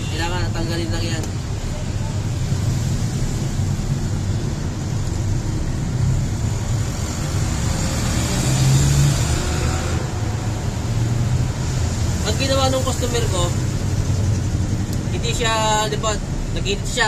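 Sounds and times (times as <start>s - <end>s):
low rumble of motor vehicle: 0.0s - 17.0s.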